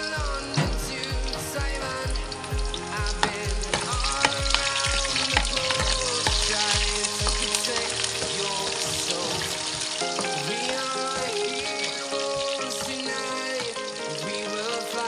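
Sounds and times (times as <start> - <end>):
background music with a beat: 0.0 - 15.0
onion sizzling in a frying pan: 0.0 - 15.0.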